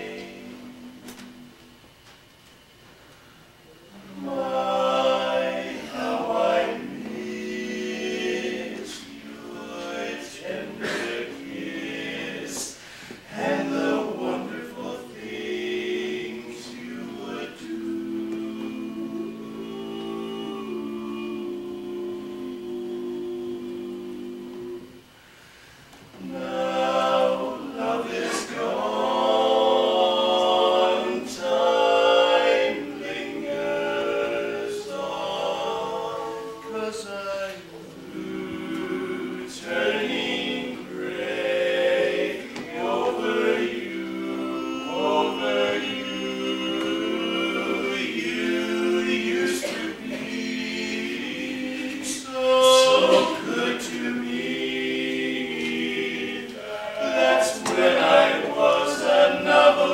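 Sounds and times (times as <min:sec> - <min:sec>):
men singing a cappella harmony: 0:03.9 - 0:25.2, 0:26.2 - 0:59.9.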